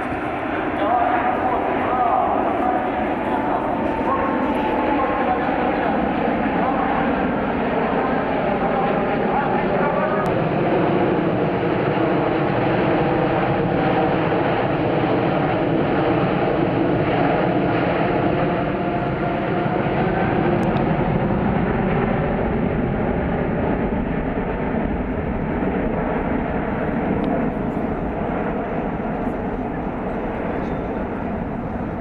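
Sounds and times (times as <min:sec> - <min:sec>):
jet engine rumble: 0:00.0 - 0:32.0.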